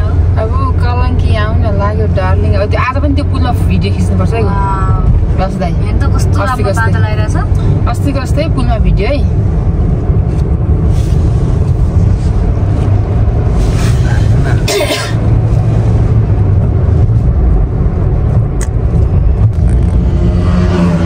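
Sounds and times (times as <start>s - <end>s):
road vehicle rumble: 0.0s - 21.0s.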